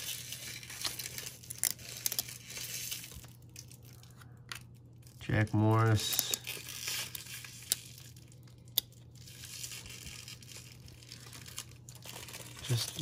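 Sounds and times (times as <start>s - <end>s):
cards rustling apart: 0.0s - 13.0s.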